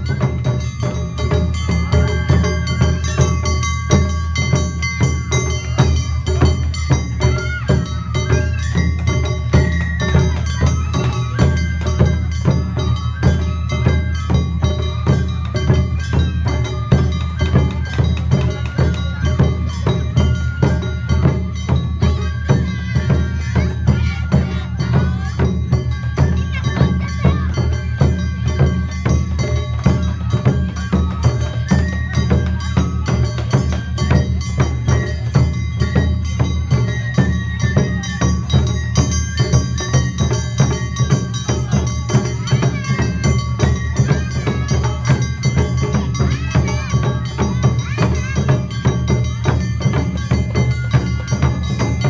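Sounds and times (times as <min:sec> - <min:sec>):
fast percussion beats: 0:00.0 - 0:52.0.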